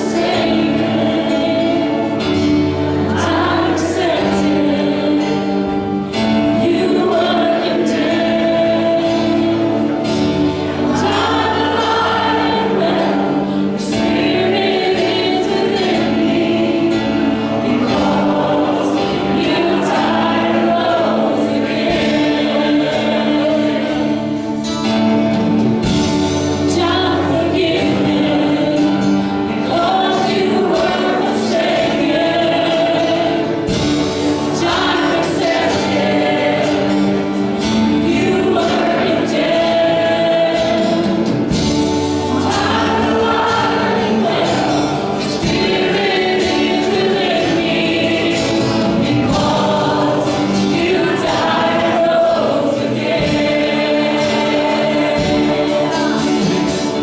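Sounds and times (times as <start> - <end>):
band accompanying: 0.0 - 57.0
group singing a gospel song: 0.0 - 57.0.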